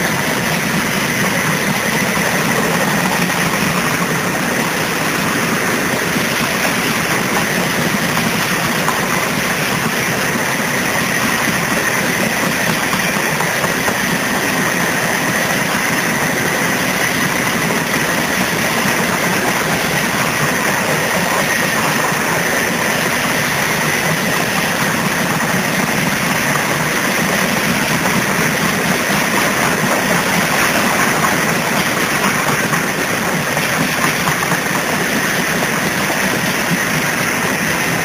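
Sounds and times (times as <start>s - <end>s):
steel train wheels on rails: 0.0s - 38.0s.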